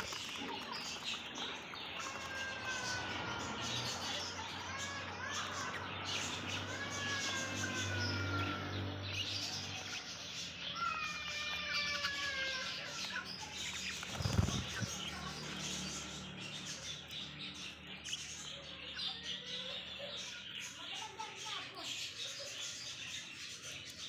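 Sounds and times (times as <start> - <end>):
budgerigars chattering and chirping: 0.0 - 24.0.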